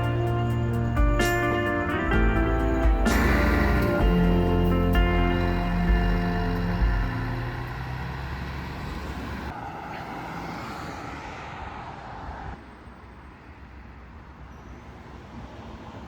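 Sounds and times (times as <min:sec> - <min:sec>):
vehicle engine rumble: 0:00.0 - 0:13.9.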